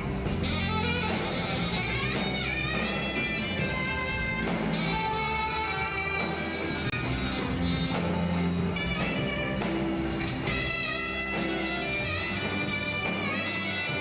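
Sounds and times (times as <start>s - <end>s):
live band with saxophones: 0.0s - 14.0s.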